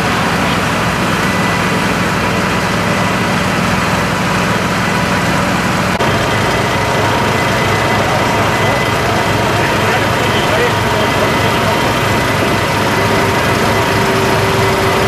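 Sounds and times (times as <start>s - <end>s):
fire truck engines running: 0.0s - 15.0s.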